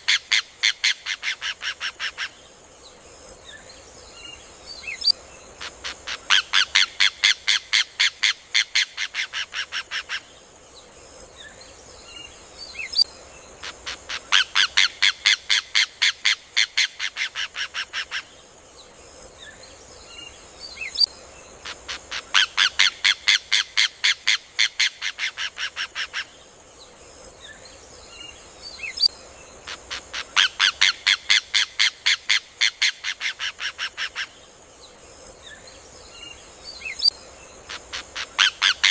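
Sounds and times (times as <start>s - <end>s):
faint high hiss: 0.0s - 38.9s.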